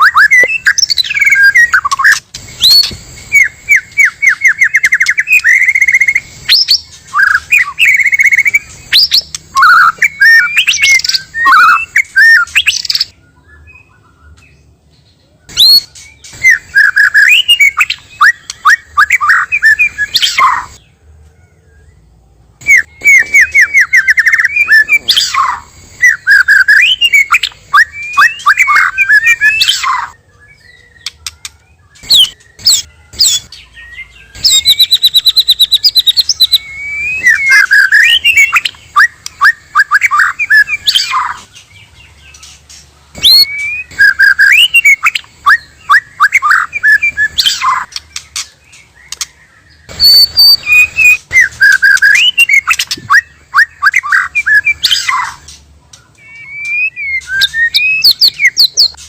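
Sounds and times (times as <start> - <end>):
bird singing whistles and chirps: 0.0 - 20.8, 21.4 - 59.0.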